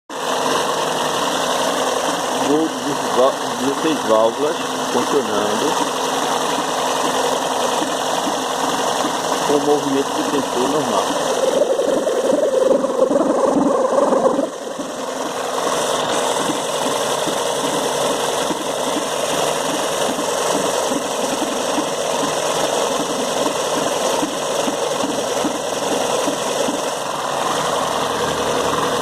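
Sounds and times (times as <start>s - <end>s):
car engine running: 0.1s - 29.0s
rhythmic mechanical noise: 0.1s - 29.0s.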